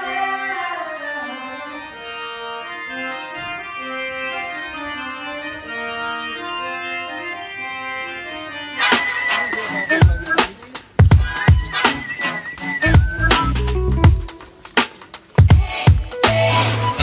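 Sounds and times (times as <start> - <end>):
organ-like keyboard music: 0.0 - 17.0.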